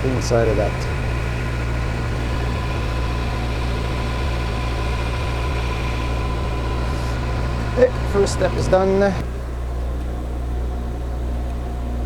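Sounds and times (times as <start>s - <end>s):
metal lathe running: 0.0s - 9.7s.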